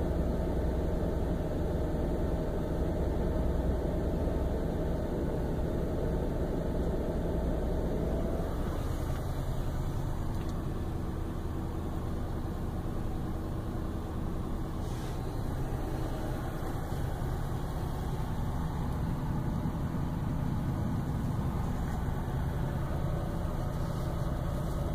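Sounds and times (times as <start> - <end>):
car engine fast idle: 0.0 - 24.9.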